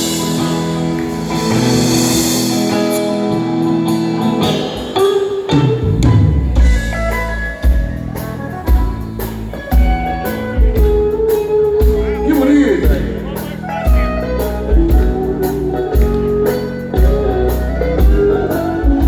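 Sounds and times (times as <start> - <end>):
drums and bass beat: 0.0 - 19.0
held band chords: 0.0 - 19.0.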